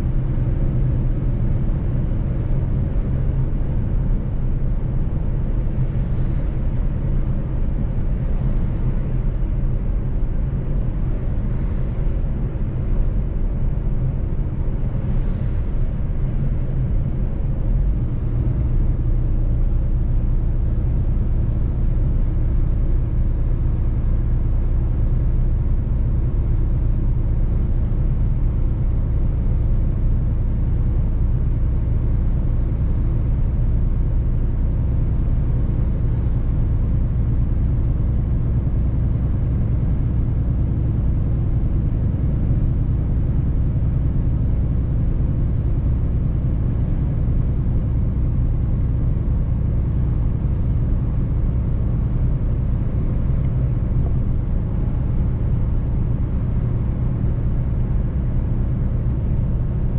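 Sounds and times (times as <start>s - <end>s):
road rumble: 0.0s - 59.7s.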